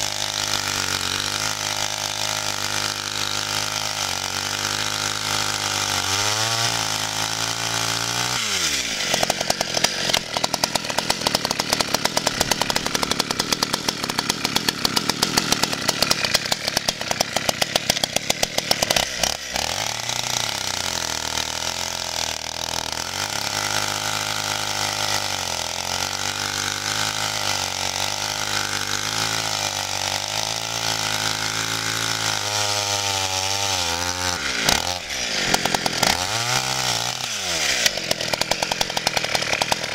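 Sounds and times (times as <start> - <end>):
chainsaw engine revving and idling: 0.0 - 39.9.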